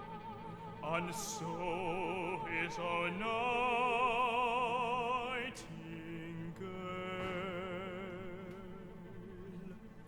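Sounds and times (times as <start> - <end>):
operatic singer with vibrato: 0.0 - 9.9.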